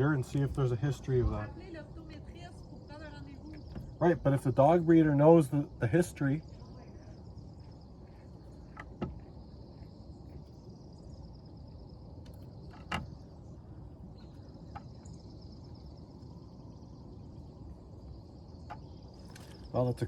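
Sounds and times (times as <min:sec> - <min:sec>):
crickets trilling: 0:00.0 - 0:20.0
outdoor background rumble: 0:00.0 - 0:20.0.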